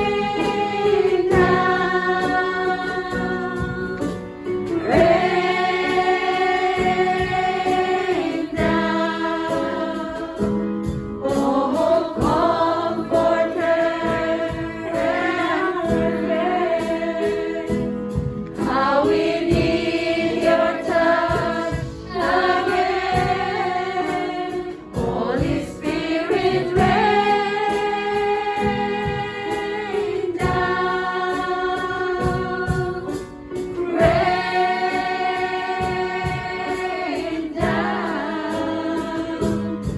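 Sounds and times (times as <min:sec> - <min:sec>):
choir singing slow worship song: 0:00.0 - 0:39.9.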